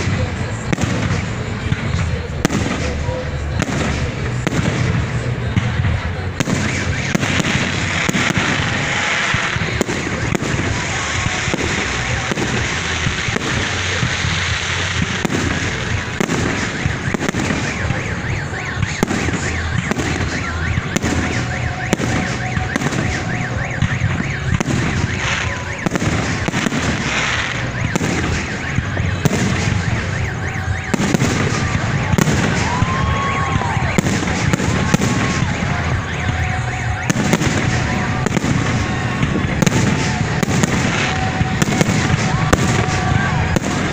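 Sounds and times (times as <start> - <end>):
firework crackling: 0.0 - 43.9.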